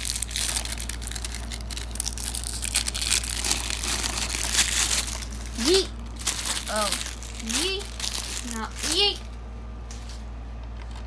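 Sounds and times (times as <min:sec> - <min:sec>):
plastic wrap crinkling and tearing: 0:00.0 - 0:09.3.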